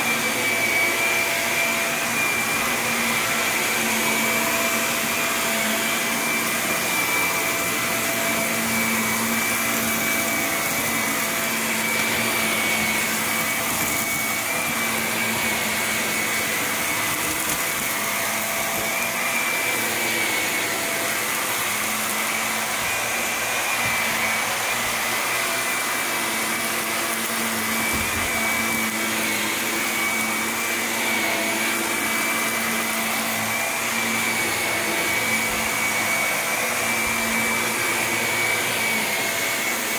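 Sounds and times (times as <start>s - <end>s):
vacuum cleaner suction hiss: 0.0s - 39.9s.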